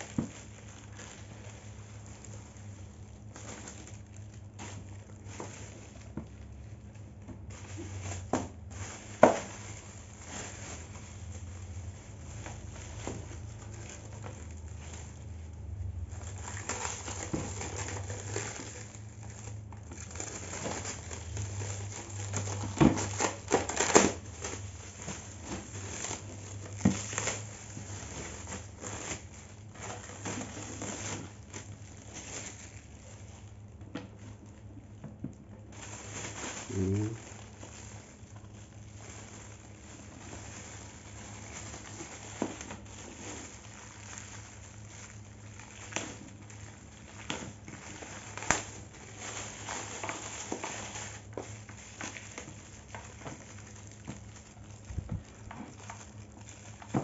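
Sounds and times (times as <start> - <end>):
plastic wrap crinkling and tearing: 0.0 - 57.0.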